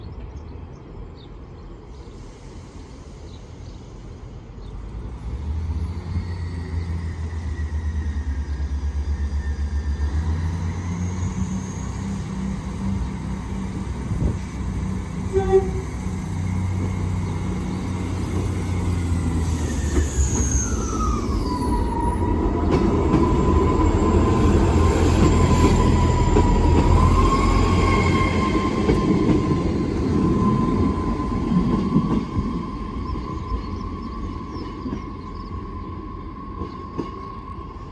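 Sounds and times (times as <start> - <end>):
train diesel engines: 0.0 - 37.9.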